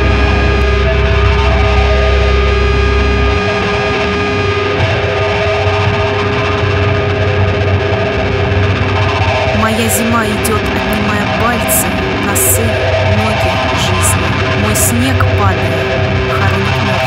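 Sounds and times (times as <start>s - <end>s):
distorted electric guitar drone: 0.0s - 17.0s.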